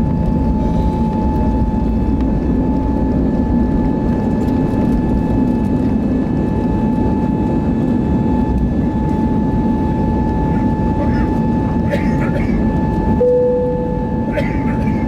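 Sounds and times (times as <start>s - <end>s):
high engine whine: 0.0s - 15.0s
jet engine cabin rumble: 0.0s - 15.0s.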